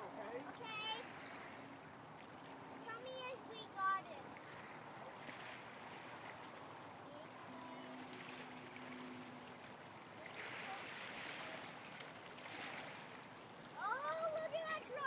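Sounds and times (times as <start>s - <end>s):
faint steady hum: 0.0s - 15.0s
small waves lapping on rocks: 0.0s - 15.0s.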